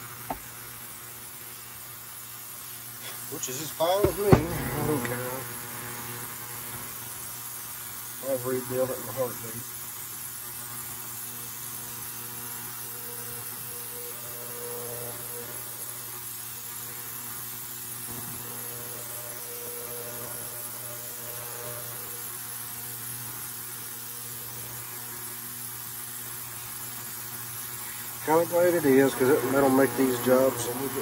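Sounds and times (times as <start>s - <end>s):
constant hiss: 0.0s - 31.0s
steady low hum: 0.0s - 31.0s.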